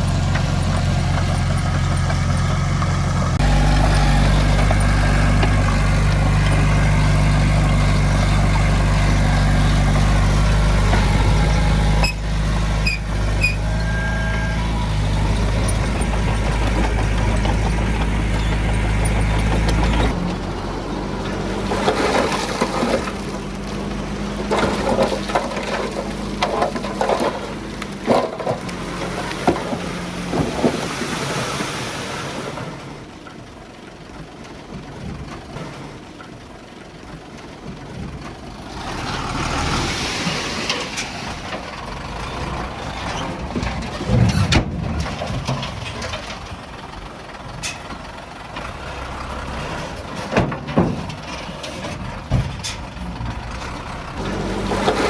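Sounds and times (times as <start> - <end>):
machinery rattling and clanking: 0.0 - 31.8, 32.7 - 55.0
diesel engine running: 0.0 - 55.0.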